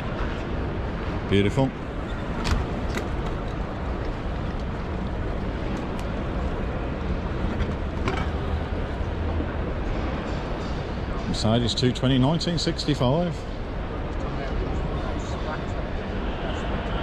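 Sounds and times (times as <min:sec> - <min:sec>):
indistinct hall noise: 0:00.0 - 0:17.0.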